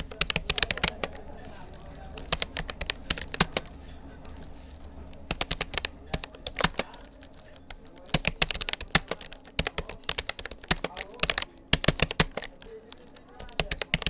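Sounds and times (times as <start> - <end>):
keyboard keystroke clicks: 0.0 - 14.0.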